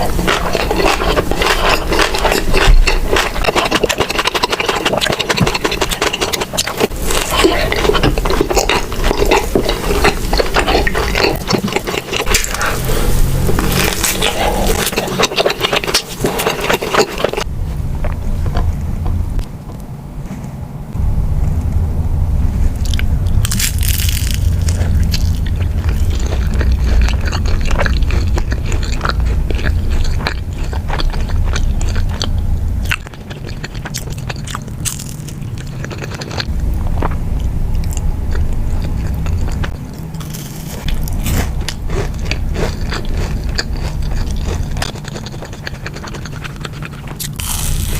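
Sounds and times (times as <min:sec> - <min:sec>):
crackly chewing: 0:00.0 - 0:19.9, 0:22.8 - 0:47.9
low hum: 0:00.0 - 0:47.9.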